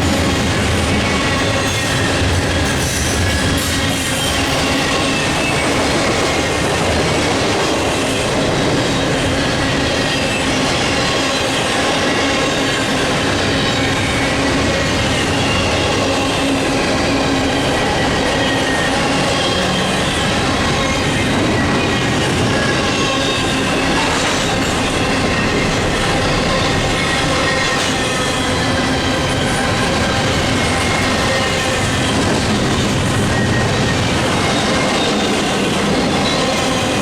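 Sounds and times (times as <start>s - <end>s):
freight train wheels on rails: 0.0s - 37.0s.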